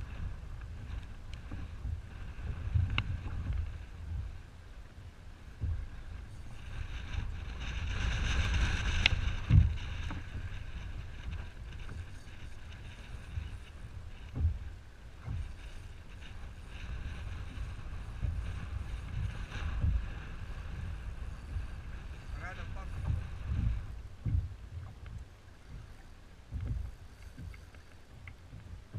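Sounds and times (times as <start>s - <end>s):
water slapping against hull: 0.0s - 28.9s
wind buffeting microphone: 0.0s - 28.9s.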